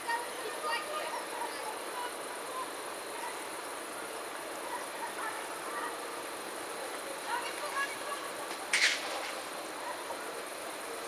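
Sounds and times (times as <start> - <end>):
high-pitched outdoor hiss: 0.0 - 11.0.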